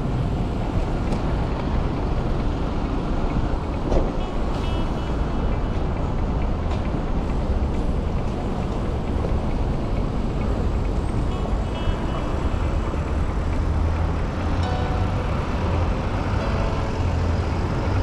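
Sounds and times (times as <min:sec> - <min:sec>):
city traffic hum: 0:00.0 - 0:18.0.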